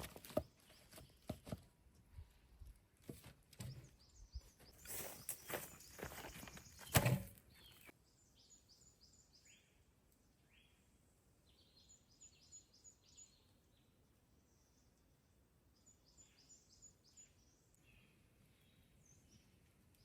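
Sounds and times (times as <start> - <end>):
small birds chirping: 3.5 - 20.0.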